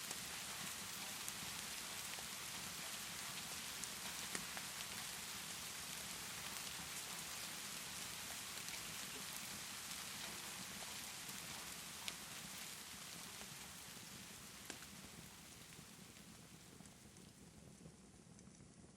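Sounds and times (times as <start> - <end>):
log fire crackling: 0.0 - 17.9
steady rain: 0.0 - 18.3.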